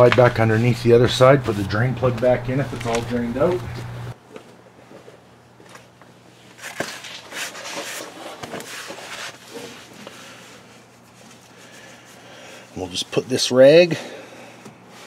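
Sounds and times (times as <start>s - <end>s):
rustling and scuffing: 0.0s - 12.2s.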